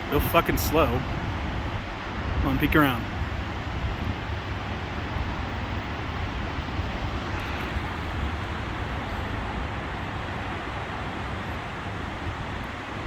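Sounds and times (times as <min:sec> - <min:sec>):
highway traffic rush: 0:00.0 - 0:13.0.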